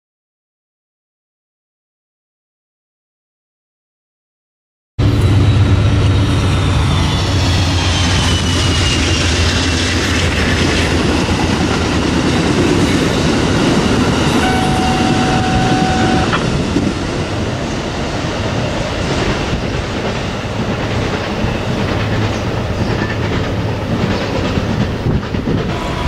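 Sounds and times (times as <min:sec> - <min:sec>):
passenger train passing: 0:05.0 - 0:26.0.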